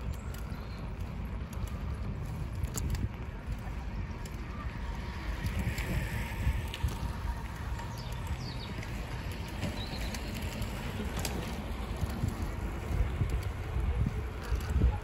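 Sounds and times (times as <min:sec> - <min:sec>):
bicycle tyres rumbling on asphalt: 0:00.0 - 0:15.0
wind buffeting microphone: 0:00.0 - 0:15.0.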